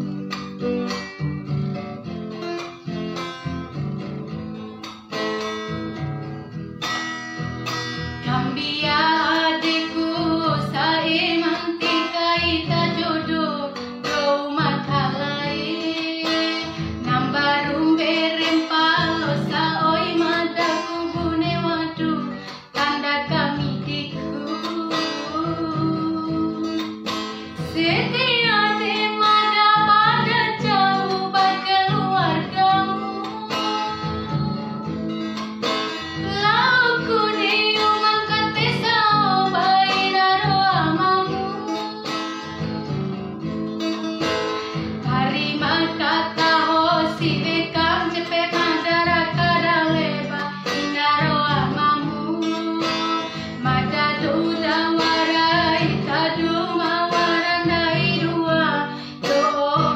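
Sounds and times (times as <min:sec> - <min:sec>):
strummed acoustic guitar: 0:00.0 - 0:59.9
woman singing: 0:08.1 - 0:59.9.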